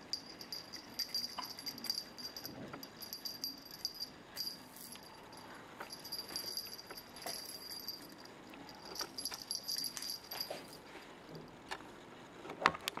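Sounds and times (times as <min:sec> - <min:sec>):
jingle bell ringing: 0:00.0 - 0:10.9.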